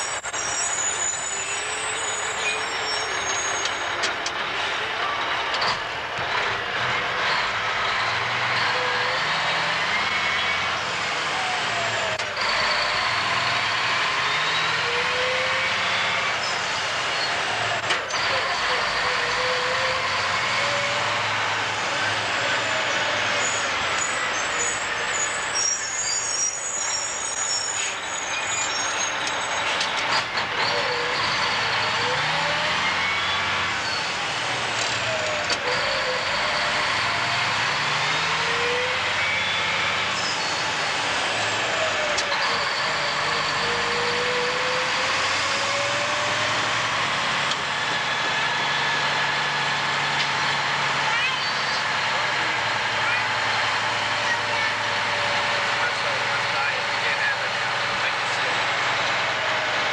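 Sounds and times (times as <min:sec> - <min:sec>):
road and drivetrain noise: 0:00.0 - 0:59.9
truck diesel engine running: 0:00.0 - 0:59.9.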